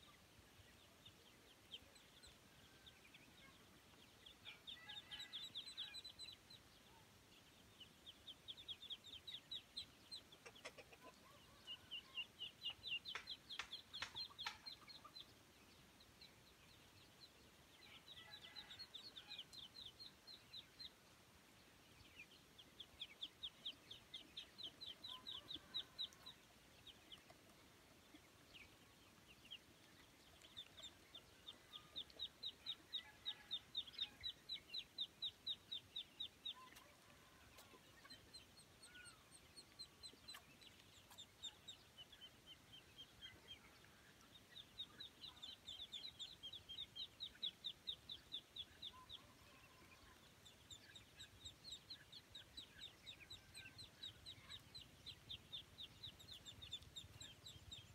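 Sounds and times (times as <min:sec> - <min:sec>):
ducklings peeping: 0:00.0 - 0:57.9.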